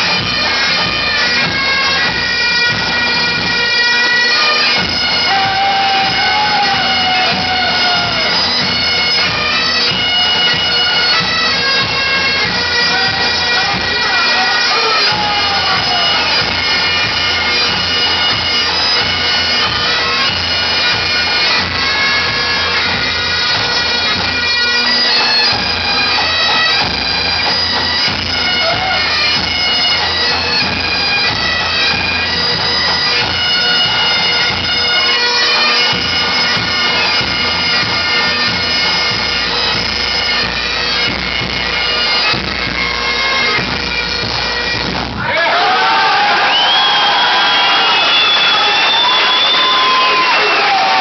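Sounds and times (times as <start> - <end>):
bagpipe band playing: 0.0 - 51.0.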